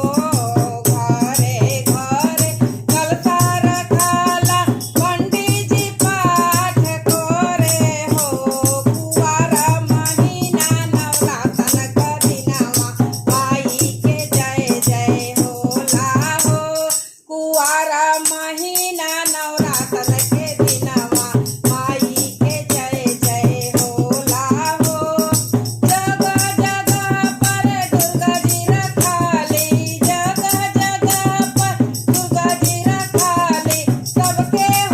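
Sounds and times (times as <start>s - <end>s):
rhythmic percussion: 0.0s - 34.9s
woman singing folk song: 0.0s - 34.9s.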